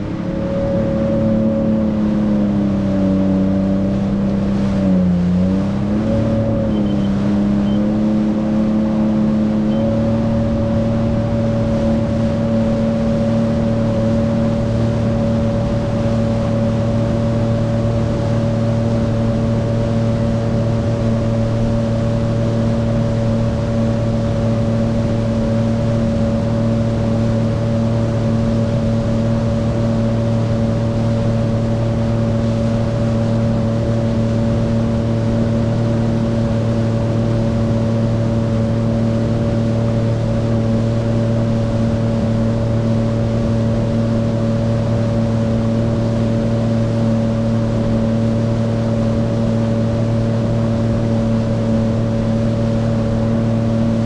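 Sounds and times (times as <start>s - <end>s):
jet ski engine running: 0.0s - 54.0s
water rushing past hull: 0.0s - 54.0s.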